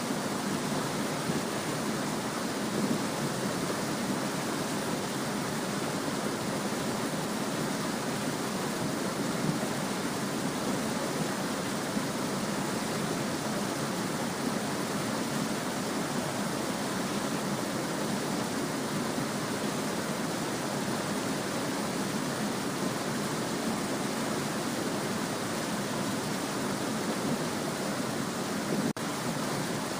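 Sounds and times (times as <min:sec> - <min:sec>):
small stream babbling: 0:00.0 - 0:29.9.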